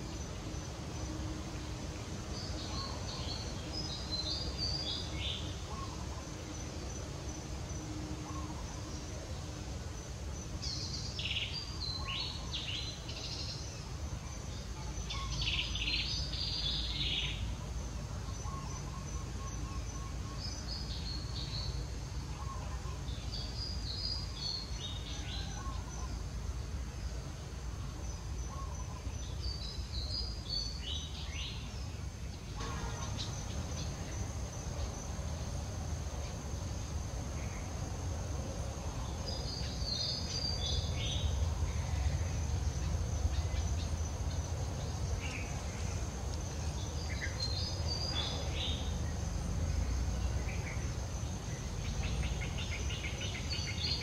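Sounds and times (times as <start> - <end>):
faint high insect whine: 0.0 - 54.0.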